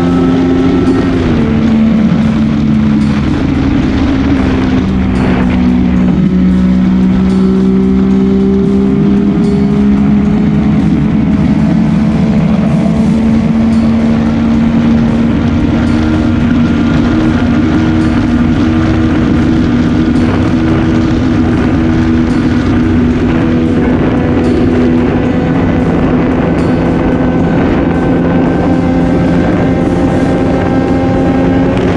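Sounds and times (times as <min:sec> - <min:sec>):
motorcycle engine running: 0:00.0 - 0:31.9
road and wind noise: 0:00.0 - 0:31.9.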